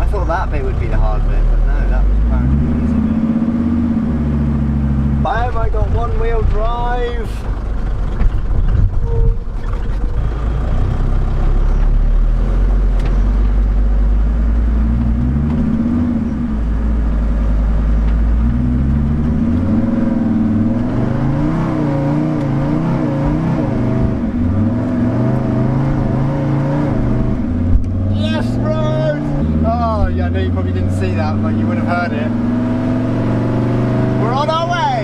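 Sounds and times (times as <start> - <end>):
van engine revving: 0.0 - 35.0.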